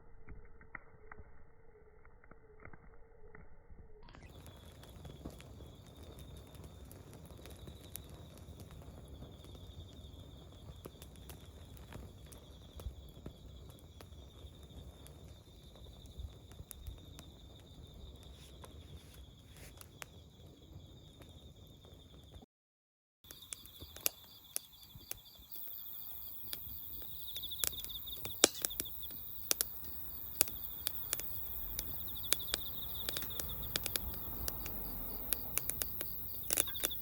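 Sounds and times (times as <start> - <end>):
campfire crackling and popping: 4.2 - 22.4, 23.3 - 37.0.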